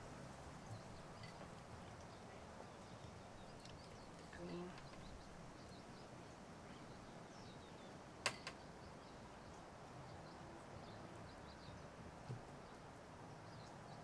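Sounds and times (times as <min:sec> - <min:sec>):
faint bird chirps: 0:00.6 - 0:12.0.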